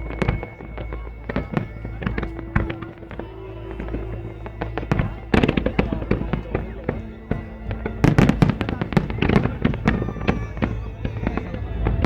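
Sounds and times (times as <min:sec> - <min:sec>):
fireworks bangs and crackles: 0:00.0 - 0:12.0
music playing: 0:00.0 - 0:12.0.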